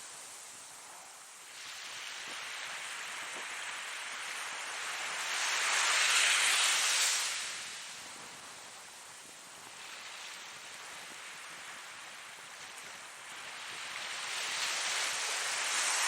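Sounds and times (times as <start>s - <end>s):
ocean surf washing in: 1.3s - 9.1s, 9.7s - 16.0s.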